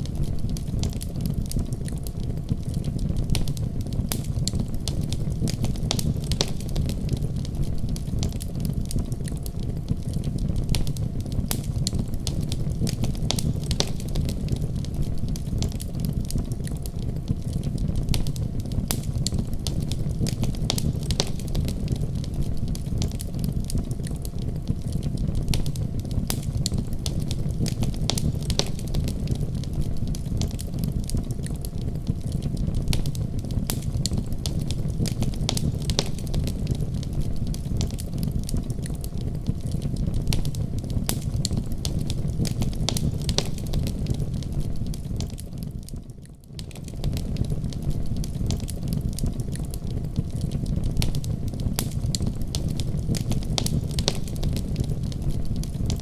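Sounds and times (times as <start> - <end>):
fire pops and snaps: 0.0 - 56.0
low rumble of burning: 0.0 - 56.0
wood fire crackling: 0.0 - 56.0.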